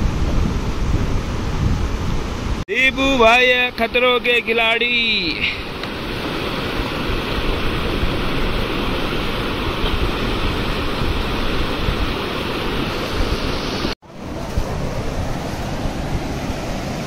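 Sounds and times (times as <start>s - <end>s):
river water flowing over rocks: 2.0s - 17.0s.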